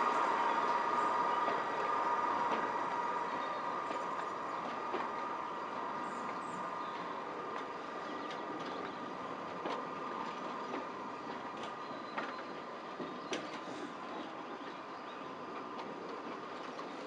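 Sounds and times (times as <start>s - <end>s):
constant high whine: 0.0s - 17.0s
train wheels rumbling on rail: 0.0s - 17.0s.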